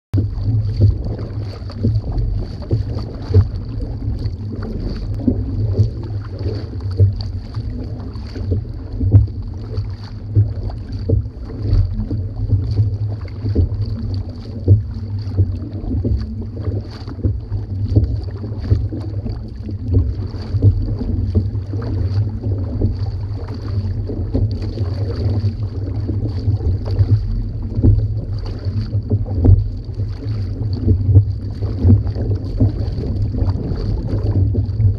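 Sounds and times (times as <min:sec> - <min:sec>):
paddle blades splashing: 0:00.1 - 0:34.9
water rushing along hull: 0:00.1 - 0:34.9
wind rumble on microphone: 0:00.1 - 0:34.9.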